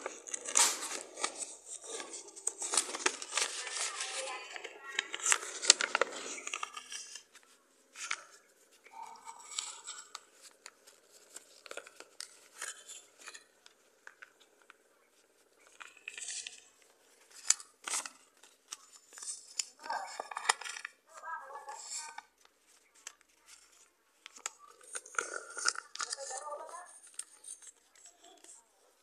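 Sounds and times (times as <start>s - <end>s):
paper crackling and rustling: 0.0s - 29.0s.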